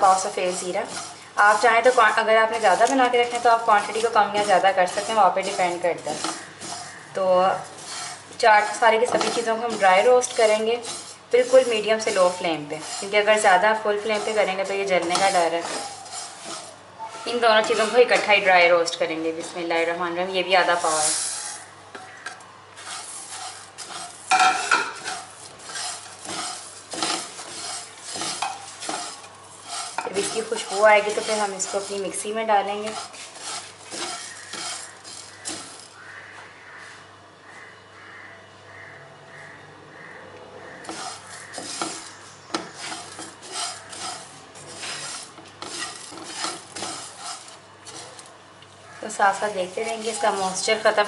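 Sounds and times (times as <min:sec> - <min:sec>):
seeds scraping across a pan: 0:00.0 - 0:21.7, 0:22.8 - 0:36.1, 0:40.7 - 0:48.3, 0:49.0 - 0:51.0.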